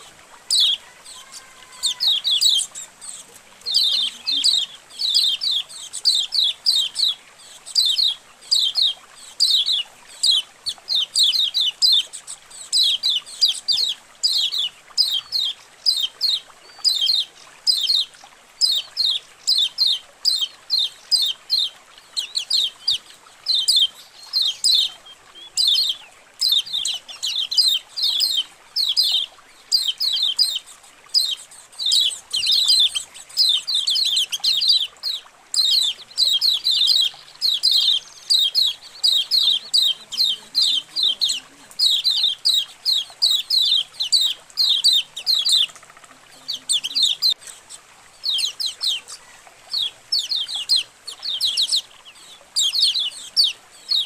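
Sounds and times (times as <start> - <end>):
birds chirping together: 0.0 - 54.0.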